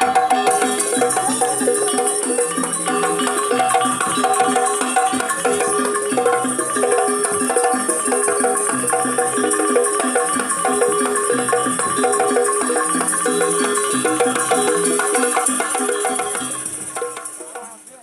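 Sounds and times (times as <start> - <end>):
gamelan metal percussion: 0.0 - 18.0
high shimmer: 0.0 - 18.0.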